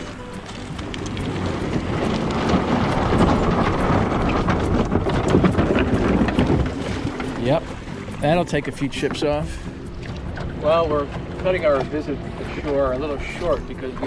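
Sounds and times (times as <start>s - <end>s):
boat hull scraping over rocks: 0.0s - 14.0s.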